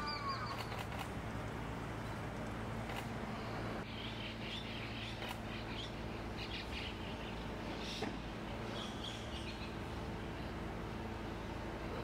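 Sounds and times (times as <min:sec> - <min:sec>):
birds chirping: 0:00.0 - 0:12.0
low rumble of city background: 0:00.0 - 0:12.0.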